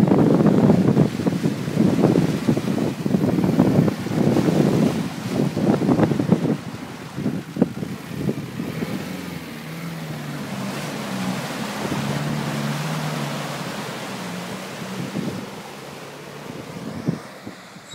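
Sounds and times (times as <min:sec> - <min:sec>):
water splashing: 0:00.0 - 0:17.9
engine pulling under load: 0:01.1 - 0:17.9.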